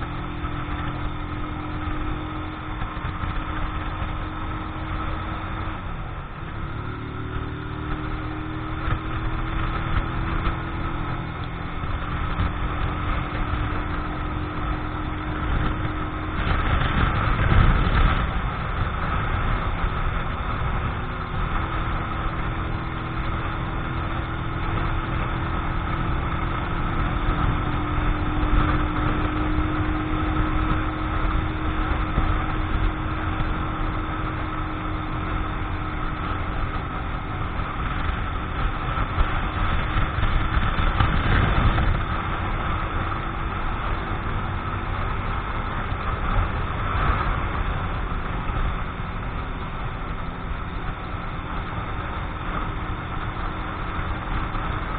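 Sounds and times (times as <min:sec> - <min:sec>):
motorcycle engine running steadily: 0:00.0 - 0:54.9
wind rushing over microphone: 0:00.0 - 0:54.9.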